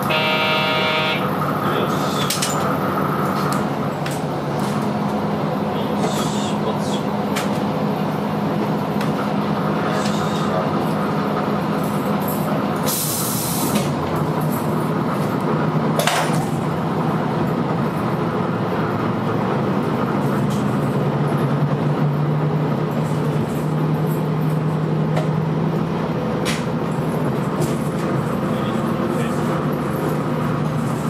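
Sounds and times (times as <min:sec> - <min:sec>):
diesel railcar engine drone: 0:00.0 - 0:31.0
wheel and rail noise: 0:00.0 - 0:31.0.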